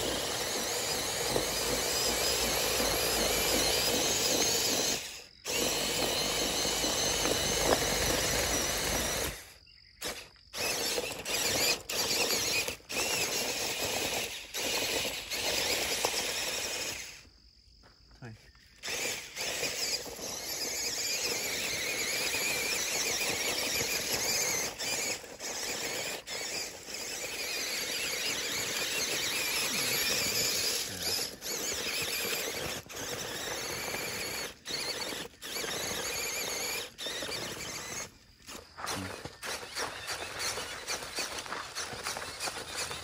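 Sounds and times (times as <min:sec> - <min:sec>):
toy truck motors whining: 0:00.0 - 0:17.4, 0:18.2 - 0:43.0.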